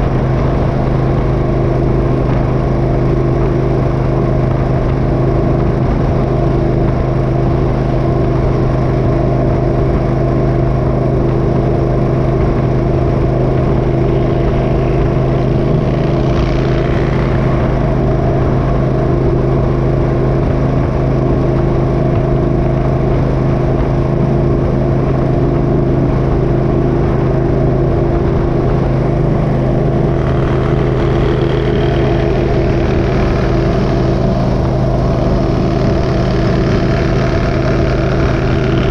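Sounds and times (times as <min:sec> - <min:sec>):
motorcycle engine running: 0:00.0 - 0:38.9
rushing noise: 0:00.0 - 0:38.9.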